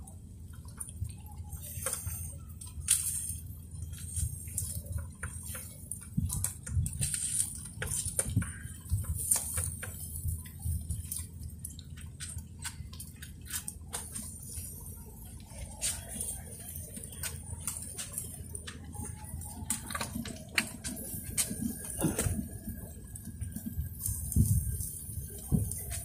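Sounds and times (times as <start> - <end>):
fish crackling on charcoal grill: 0.0 - 26.0
low steady rumble: 0.0 - 26.0.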